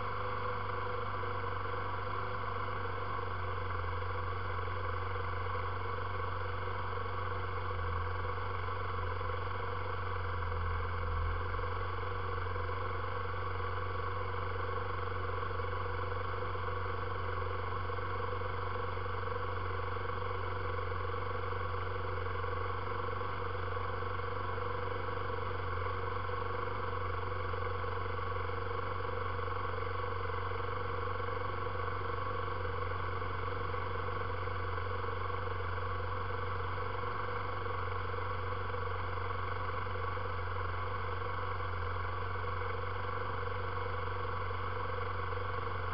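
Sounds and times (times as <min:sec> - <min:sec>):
atv engine idling: 0:00.0 - 0:45.9.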